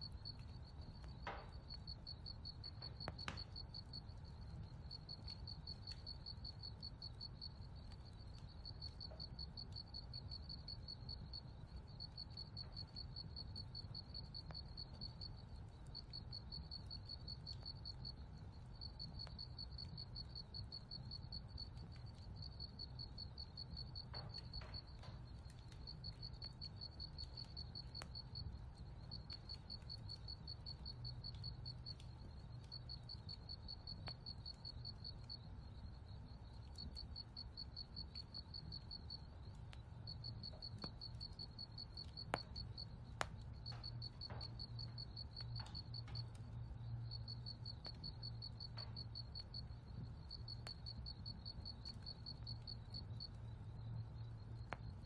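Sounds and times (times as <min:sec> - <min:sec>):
faint cricket chirping: 0:00.0 - 0:55.0.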